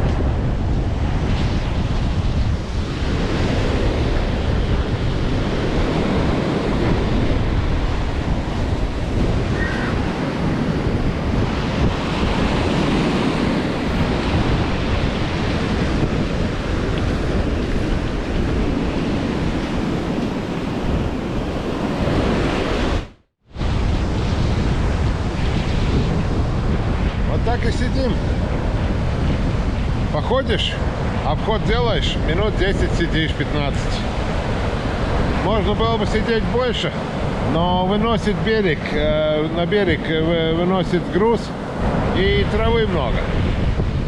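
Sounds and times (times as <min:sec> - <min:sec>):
waves breaking on shore: 0:00.0 - 0:44.0
wind buffeting microphone: 0:00.0 - 0:44.0.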